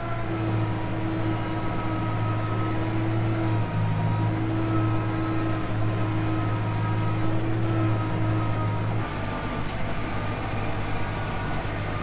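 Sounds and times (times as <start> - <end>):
tractor engine droning under load: 0.0 - 12.0.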